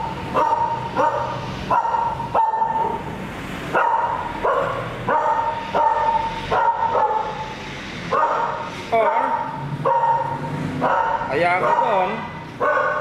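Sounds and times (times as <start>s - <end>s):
dog barking: 0.0s - 3.1s, 3.7s - 13.0s.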